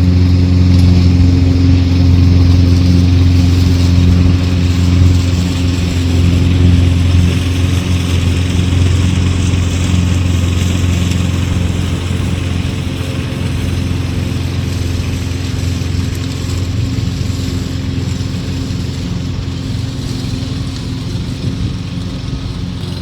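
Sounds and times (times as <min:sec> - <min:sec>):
lawn mower engine running: 0:00.0 - 0:23.0.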